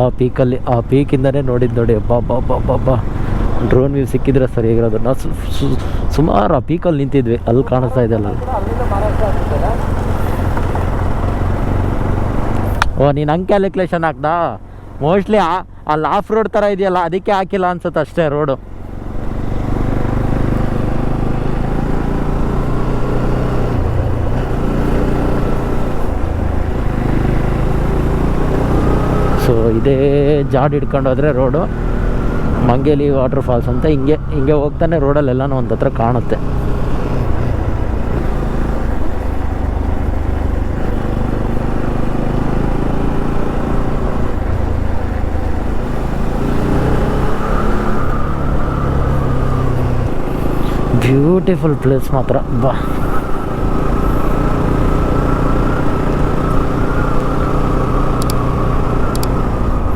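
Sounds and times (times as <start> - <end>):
motorcycle engine drone: 0.0 - 59.9
road and wind noise: 0.0 - 59.9.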